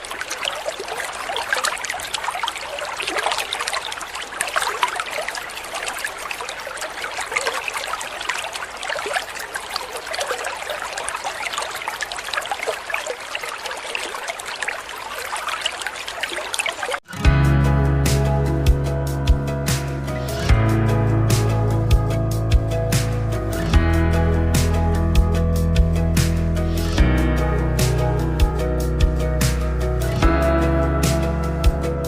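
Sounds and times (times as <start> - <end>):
water trickling and splashing: 0.0 - 17.3, 18.1 - 32.0.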